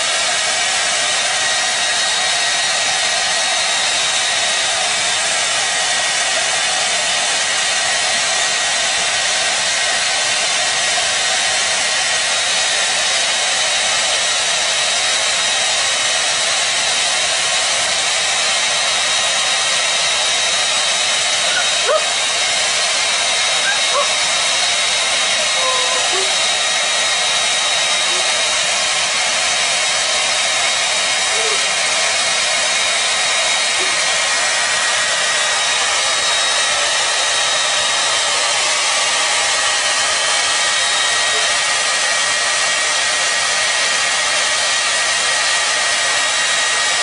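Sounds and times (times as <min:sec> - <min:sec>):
hair dryer blowing air: 0:00.0 - 0:47.0
hair dryer motor whine: 0:00.0 - 0:47.0.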